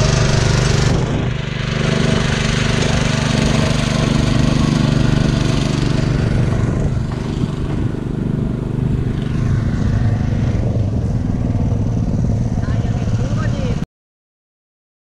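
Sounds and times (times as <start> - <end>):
tiller engine running: 0.0 - 13.8.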